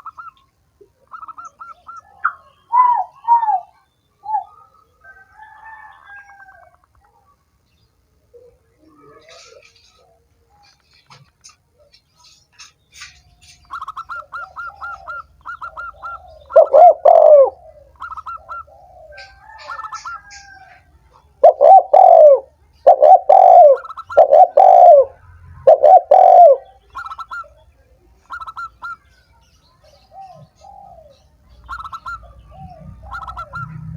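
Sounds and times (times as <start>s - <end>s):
bird high chirps: 0.0s - 6.5s, 9.1s - 33.9s
dove cooing: 0.0s - 6.7s, 8.3s - 12.4s, 13.0s - 29.0s, 29.8s - 33.9s.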